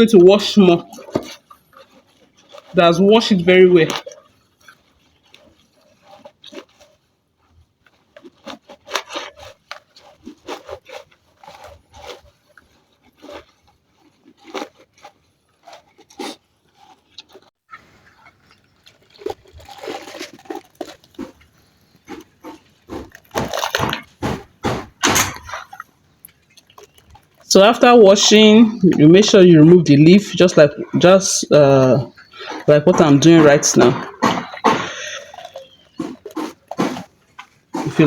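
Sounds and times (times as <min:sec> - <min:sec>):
leaves scrubbed by hand in water: 0:00.0 - 0:38.0.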